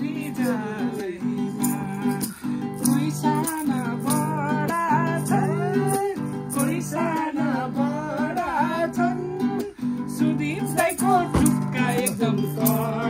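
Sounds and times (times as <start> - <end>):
acoustic guitar strumming: 0.0 - 13.0
person singing wavering melody: 0.0 - 13.0.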